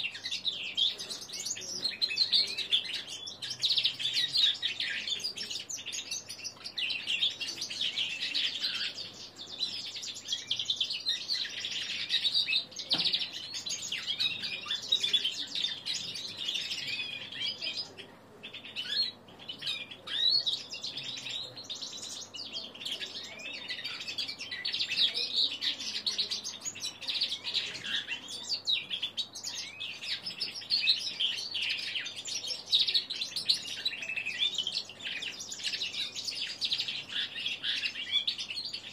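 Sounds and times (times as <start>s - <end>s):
bird singing twittering song: 0.0s - 38.9s.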